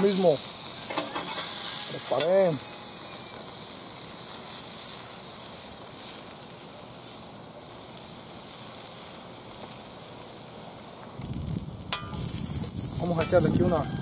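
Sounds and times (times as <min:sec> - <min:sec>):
sausages sizzling: 0:00.0 - 0:14.0.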